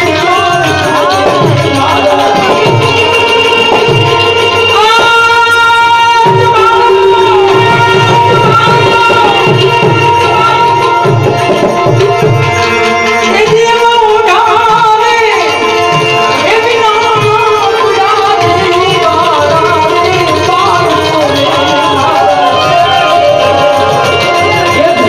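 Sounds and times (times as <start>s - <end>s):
harmonium chords: 0.0s - 25.0s
man singing: 0.0s - 25.0s
tabla drums: 0.0s - 25.0s.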